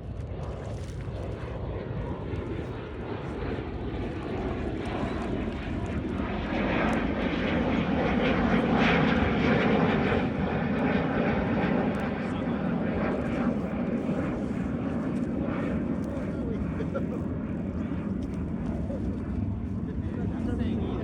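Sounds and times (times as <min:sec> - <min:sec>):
airplane engine drone overhead: 0:00.0 - 0:21.0.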